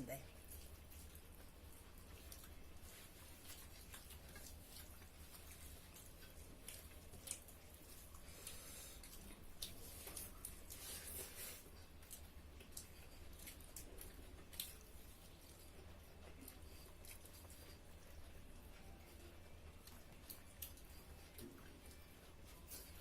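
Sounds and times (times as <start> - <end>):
low steady hum: 0.0 - 23.0
soft chewing: 0.0 - 23.0.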